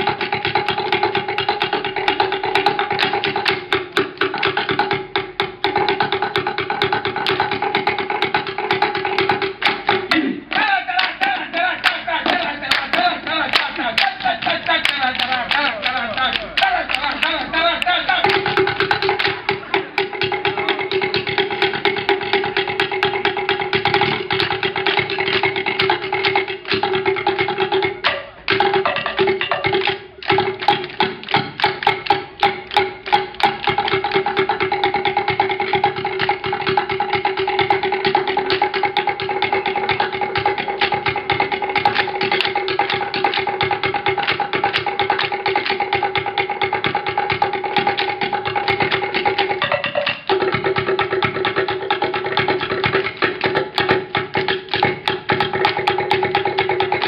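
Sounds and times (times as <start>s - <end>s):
people clapping and slapping: 0.0s - 57.0s
wooden drum beats: 0.0s - 57.0s.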